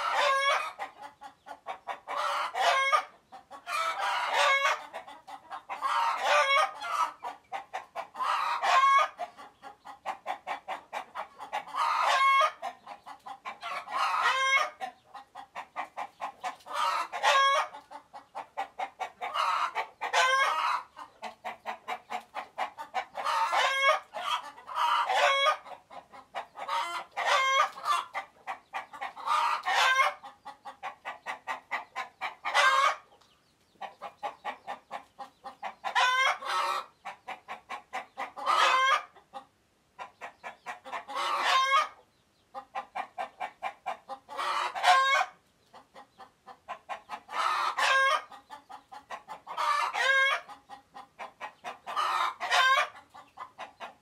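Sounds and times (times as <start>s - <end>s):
chicken alarm call: 0.0s - 54.0s.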